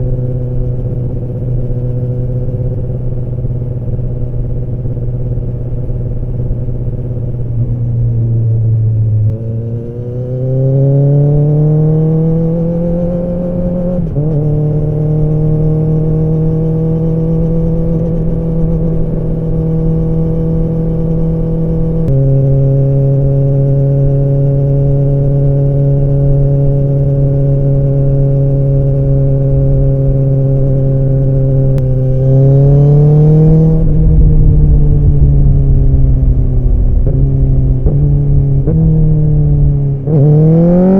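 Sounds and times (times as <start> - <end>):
motorcycle exhaust echoing in tunnel: 0.0 - 40.9.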